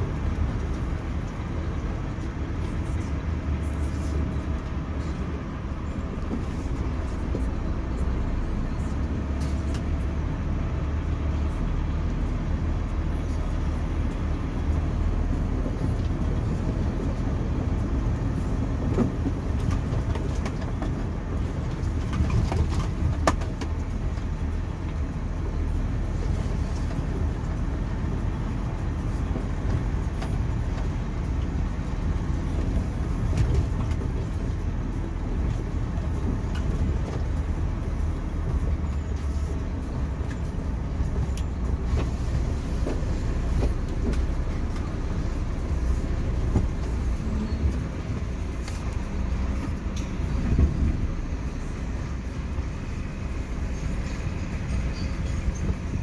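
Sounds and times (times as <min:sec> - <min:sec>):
diesel truck engine rumble: 0:00.0 - 0:56.0.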